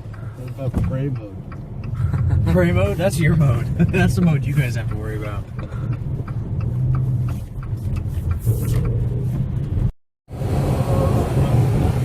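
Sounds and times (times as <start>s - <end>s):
light regular ticking: 0.0s - 9.9s
car engine and tyres rumbling: 0.0s - 12.0s.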